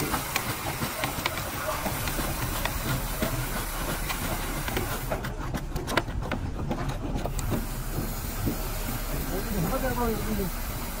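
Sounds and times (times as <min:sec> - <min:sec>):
irregular knocks and clicks: 0:00.0 - 0:09.8.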